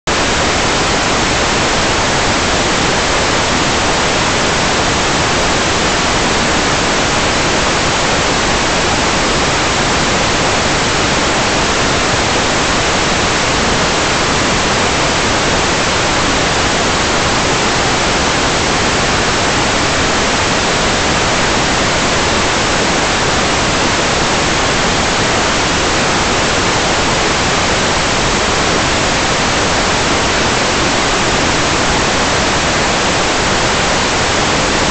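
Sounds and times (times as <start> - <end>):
static hiss: 0.1 - 34.9.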